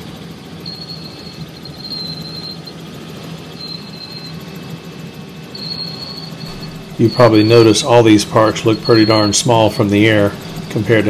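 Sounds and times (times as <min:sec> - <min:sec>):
helicopter drone from inside cabin: 0:00.0 - 0:11.0
thin high whine: 0:00.0 - 0:11.0.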